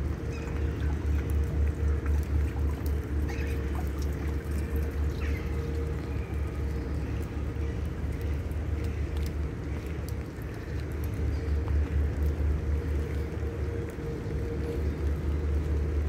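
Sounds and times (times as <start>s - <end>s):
light rain ticks: 0.0s - 16.0s
low rumble: 0.0s - 16.0s.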